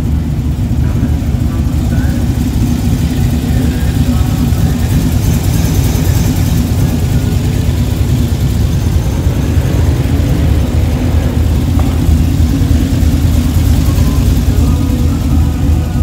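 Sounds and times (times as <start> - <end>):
engine idling exhaust rumble: 0.0 - 16.0.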